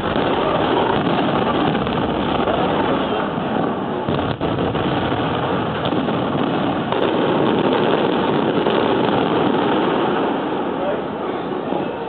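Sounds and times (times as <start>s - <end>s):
fireworks crackling bursts: 0.0s - 12.0s.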